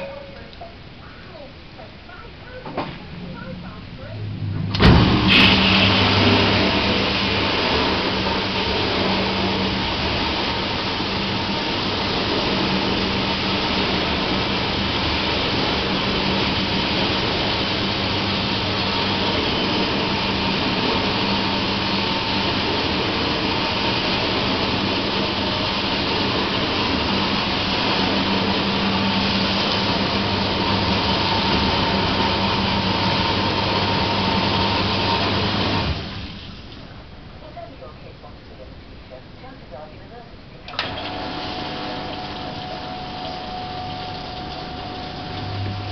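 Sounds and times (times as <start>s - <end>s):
water spraying: 0.0s - 37.6s, 40.7s - 45.9s
pump motor hum: 3.1s - 37.3s, 40.6s - 45.9s.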